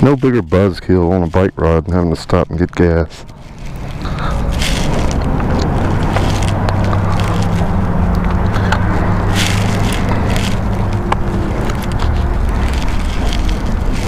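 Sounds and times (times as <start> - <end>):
motorcycle engine droning: 0.0 - 14.0
sharp clicks and crackles: 0.0 - 14.0.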